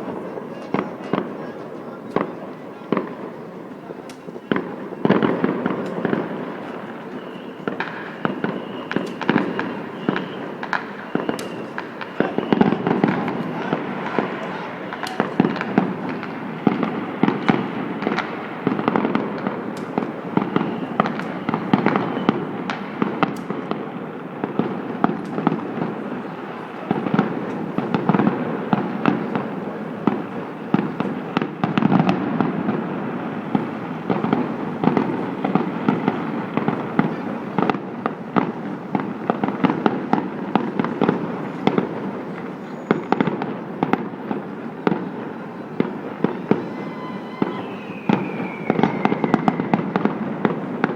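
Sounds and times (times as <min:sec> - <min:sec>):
fireworks bangs and pops: 0:00.0 - 0:50.9.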